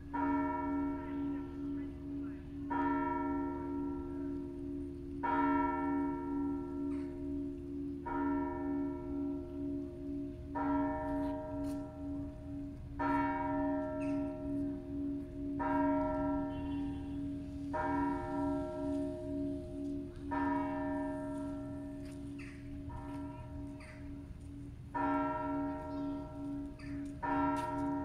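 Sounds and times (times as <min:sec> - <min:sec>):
church bell strokes: 0:00.0 - 0:28.0
deep bell humming: 0:00.0 - 0:28.0.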